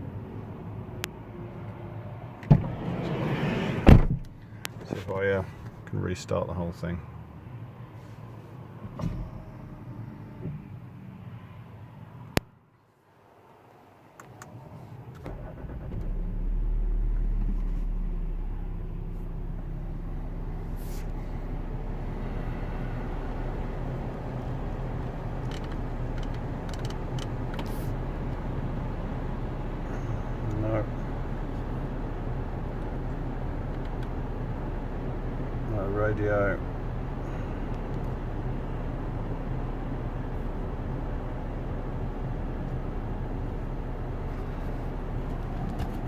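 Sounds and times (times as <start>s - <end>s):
car engine humming: 0.0s - 12.5s, 14.0s - 46.0s.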